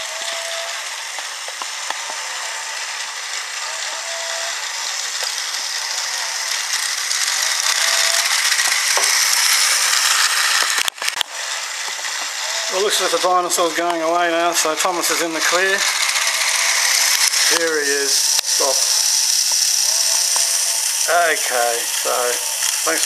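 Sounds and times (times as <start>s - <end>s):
toy gearboxes whirring and clattering: 0.0s - 23.0s.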